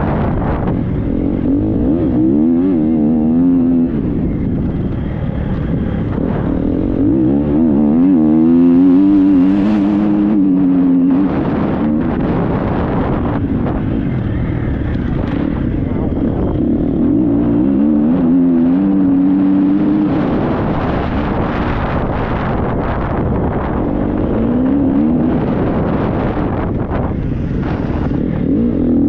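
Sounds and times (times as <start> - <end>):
motorbike engine revving: 0.0 - 29.0
steady rushing noise: 0.0 - 29.0.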